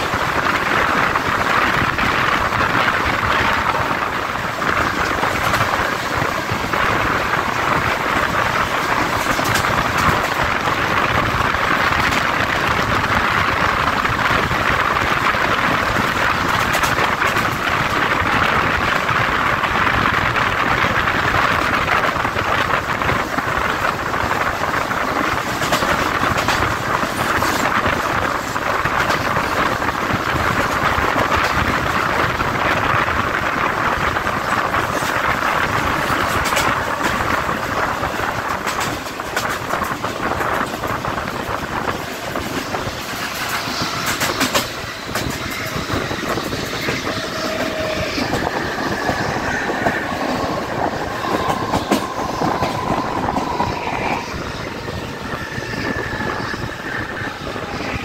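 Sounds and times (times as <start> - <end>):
train wheels rushing on rail: 0.0 - 58.0.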